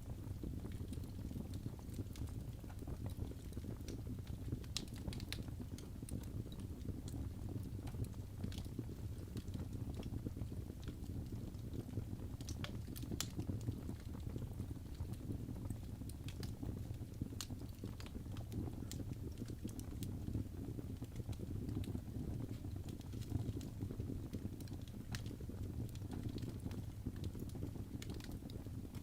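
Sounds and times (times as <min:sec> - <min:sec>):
fire crackling and popping: 0:00.0 - 0:29.0
fire rumbling in fireplace: 0:00.0 - 0:29.0.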